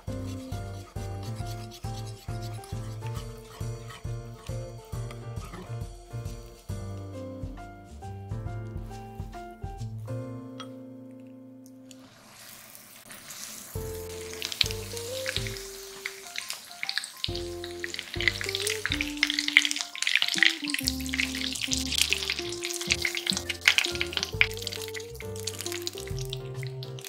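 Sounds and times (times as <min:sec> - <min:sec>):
food sizzling in oil: 0:00.0 - 0:06.7, 0:12.0 - 0:27.0
light background music: 0:00.0 - 0:11.8, 0:13.7 - 0:27.0.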